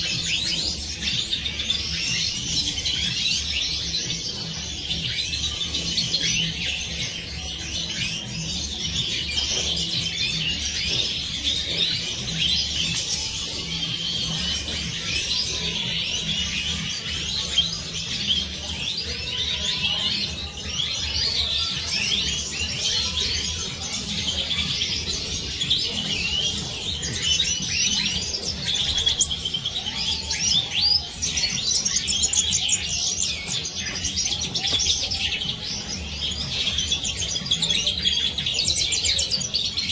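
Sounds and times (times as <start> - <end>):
finches chirping and twittering: 0.0 - 39.9.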